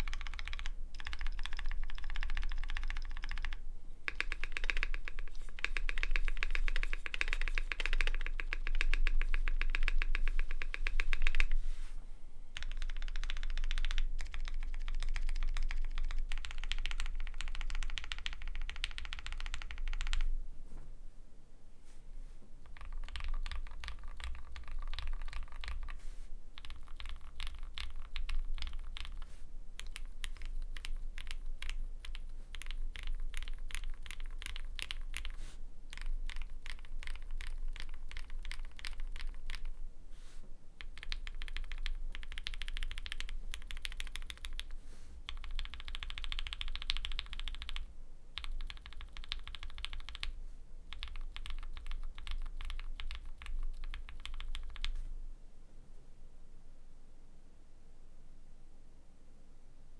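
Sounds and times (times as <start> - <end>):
mechanical keyboard typing: 0.0 - 11.6, 12.6 - 20.3, 22.6 - 26.0, 26.6 - 39.8, 40.8 - 55.0.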